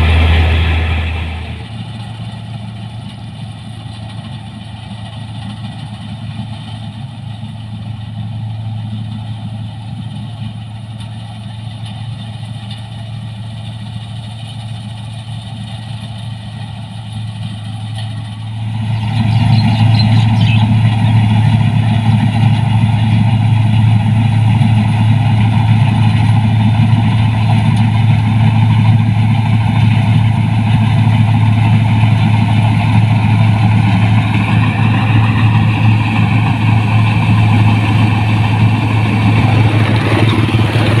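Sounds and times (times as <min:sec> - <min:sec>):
harvester engine droning: 0:00.0 - 0:41.0.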